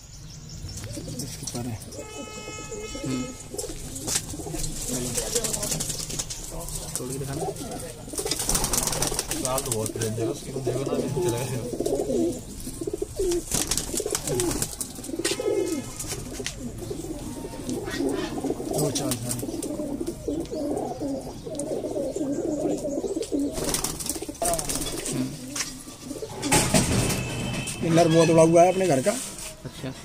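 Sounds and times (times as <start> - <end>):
pigeons cooing: 0.6 - 28.6.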